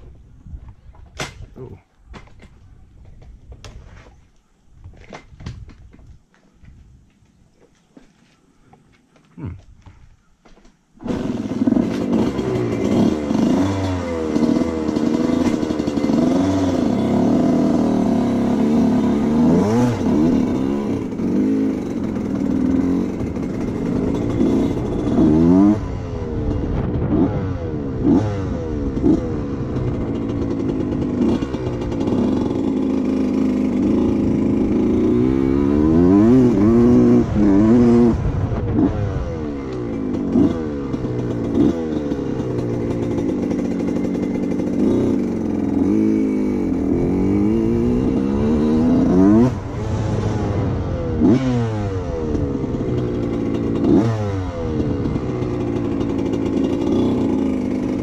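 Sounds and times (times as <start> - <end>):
two-stroke motorcycle engine revving: 11.0 - 58.0.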